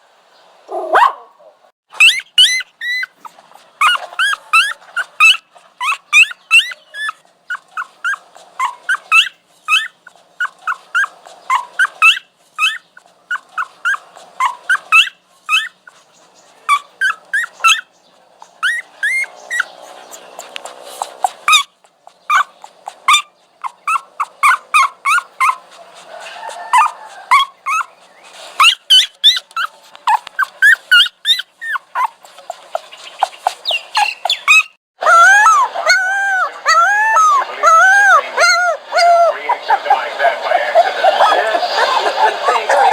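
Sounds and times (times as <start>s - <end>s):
dog whining: 0.7s - 16.0s, 16.6s - 17.9s, 18.6s - 28.0s, 28.6s - 42.9s.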